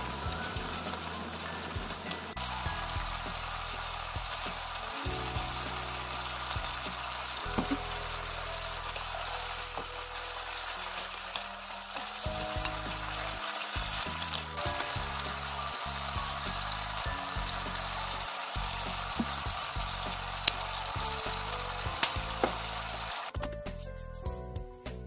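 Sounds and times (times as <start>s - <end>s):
food sizzling in a frying pan: 0.0s - 23.4s.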